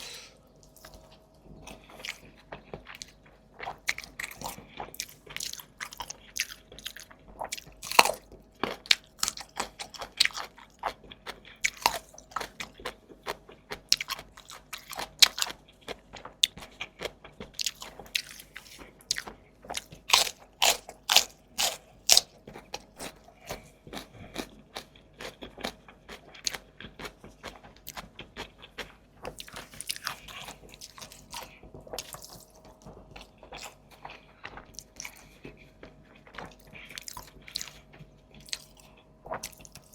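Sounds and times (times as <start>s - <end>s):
biting and chewing crunches: 0.6s - 39.9s.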